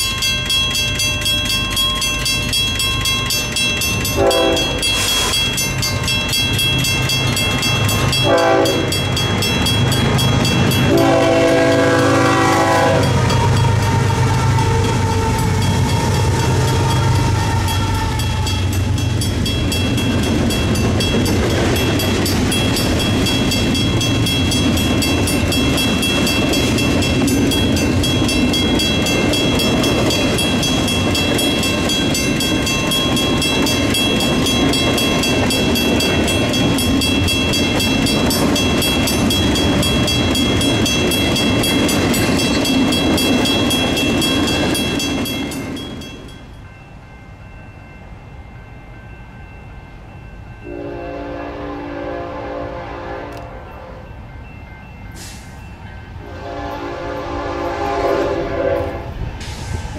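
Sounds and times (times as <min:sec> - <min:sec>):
diesel locomotive engine: 0:00.0 - 0:59.9
train wheels rumbling on rails: 0:00.0 - 0:59.9.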